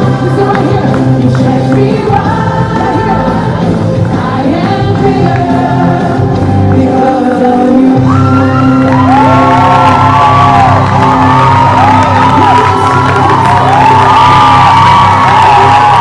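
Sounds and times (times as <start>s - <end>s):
gospel song over speakers: 0.0s - 16.0s.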